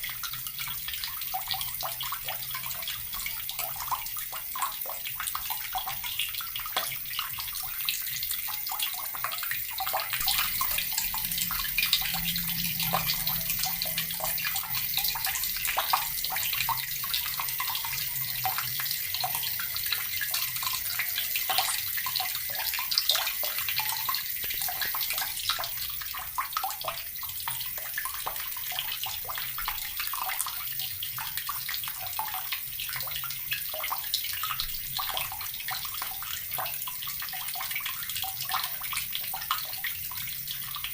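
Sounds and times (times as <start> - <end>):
tap water running and splashing: 0.0 - 40.9.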